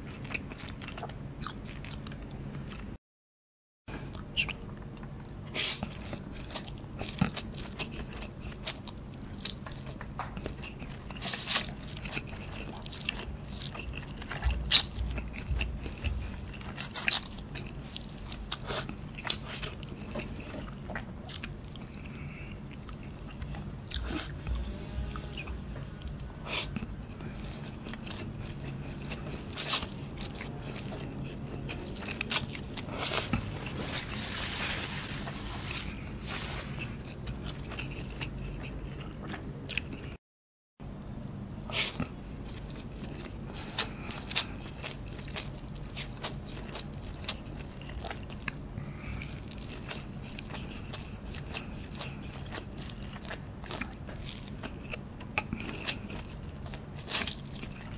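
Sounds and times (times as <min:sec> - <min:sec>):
person chewing and biting: 0:04.2 - 0:34.4, 0:35.6 - 0:40.1, 0:41.7 - 0:57.9.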